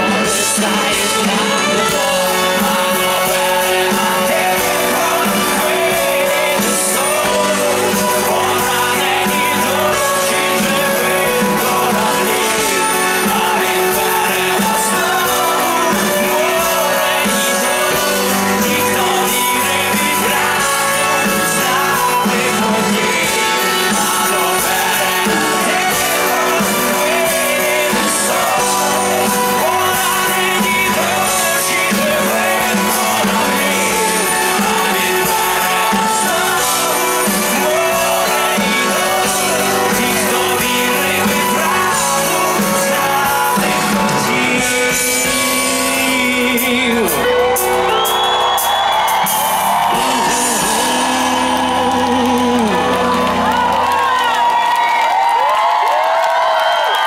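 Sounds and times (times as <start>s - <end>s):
bass guitar: 0.0s - 57.0s
drums: 0.0s - 57.0s
keyboards: 0.0s - 57.0s
male singer singing: 0.0s - 57.0s.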